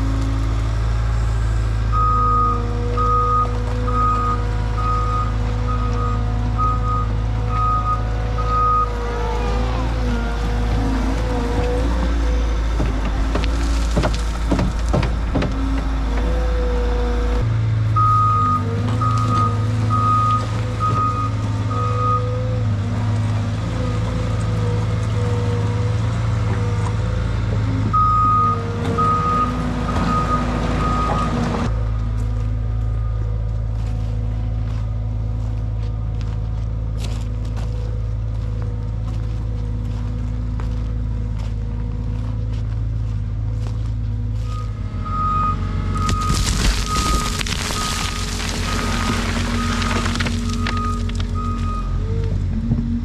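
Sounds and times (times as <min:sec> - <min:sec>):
skid steer engine running: 0:00.0 - 0:53.0.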